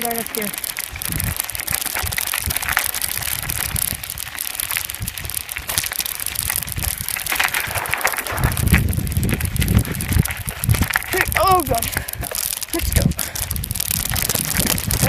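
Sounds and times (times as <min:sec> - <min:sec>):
bicycle tyres crunching on dirt: 0:00.0 - 0:15.0
low rumbling buffets: 0:00.0 - 0:15.0.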